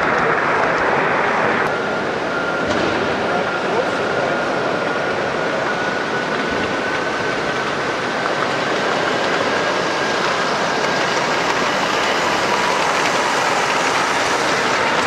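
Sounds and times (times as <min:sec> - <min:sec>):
model train wheels rumbling on rail: 0:00.0 - 0:15.0.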